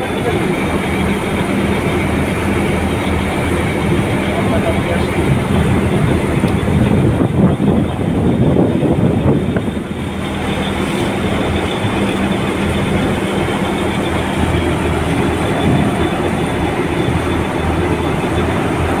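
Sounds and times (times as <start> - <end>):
marine diesel engines droning: 0.0 - 19.0
water rushing along hull: 0.0 - 19.0.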